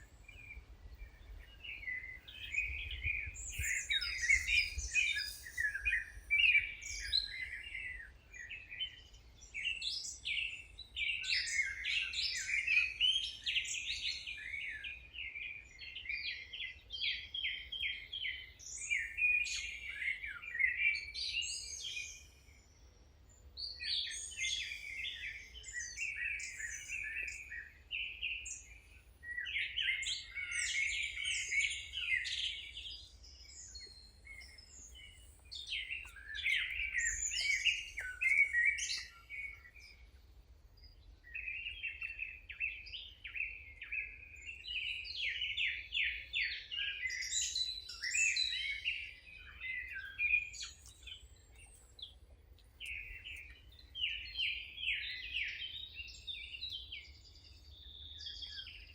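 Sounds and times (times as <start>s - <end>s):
songbirds chirping and singing: 0.0s - 58.9s.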